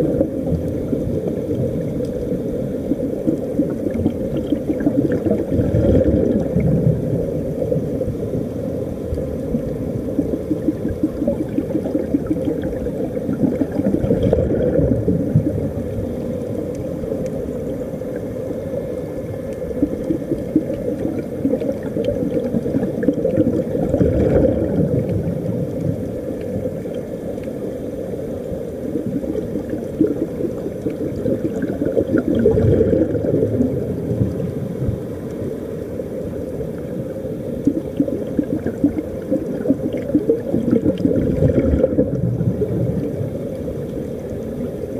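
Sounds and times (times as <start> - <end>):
underwater bubbling and gurgling: 0.0 - 44.9.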